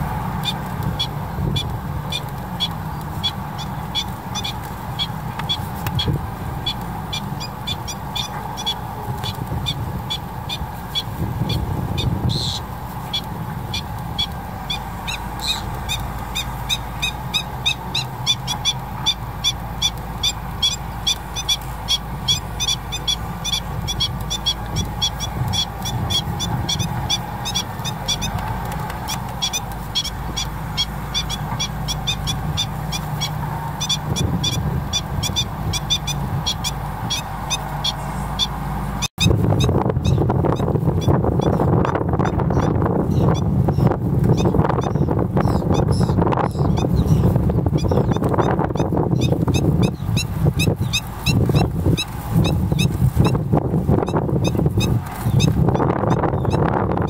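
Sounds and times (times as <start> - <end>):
bird calling sharp notes: 0.0 - 57.0
low steady rumble: 0.0 - 57.0.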